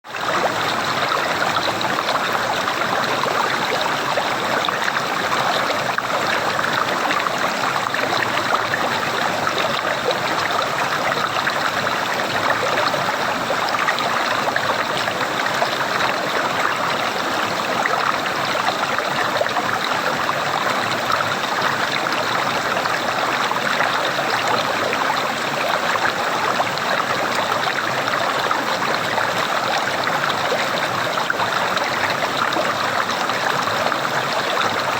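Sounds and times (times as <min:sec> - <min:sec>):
water gurgling: 0:00.1 - 0:34.9.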